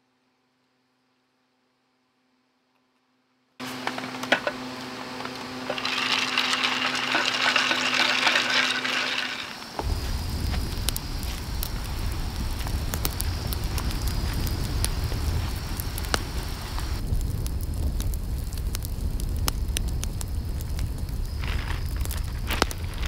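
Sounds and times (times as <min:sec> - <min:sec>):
campfire crackling and popping: 0:03.6 - 0:23.0
low steady rumble: 0:03.9 - 0:23.0.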